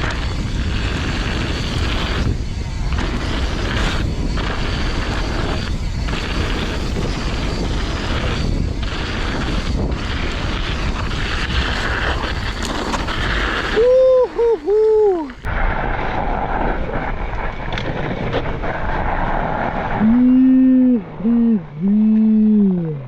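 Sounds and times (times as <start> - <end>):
mountain bike tyre noise: 0.0 - 23.0
wind buffeting microphone: 0.0 - 23.0.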